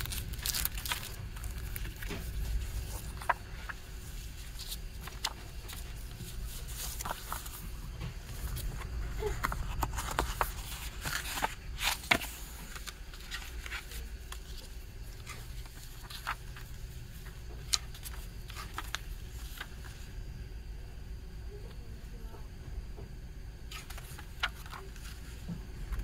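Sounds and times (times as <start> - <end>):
sharp paper crinkles: 0.0 - 20.1, 23.7 - 26.0
booklet pages flipping: 0.0 - 20.2, 23.7 - 26.0
paper sheets rustling: 0.0 - 20.2, 23.7 - 26.0.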